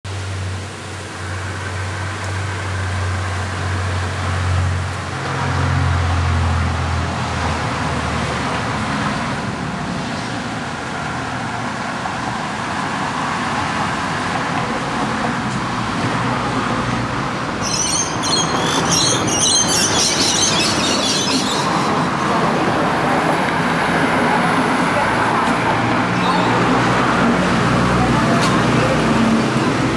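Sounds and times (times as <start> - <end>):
road traffic roar: 0.0 - 29.9.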